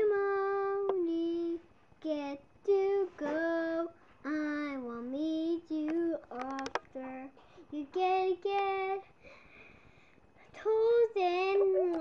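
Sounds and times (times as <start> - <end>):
girl singing: 0.0 - 9.2, 10.4 - 12.0.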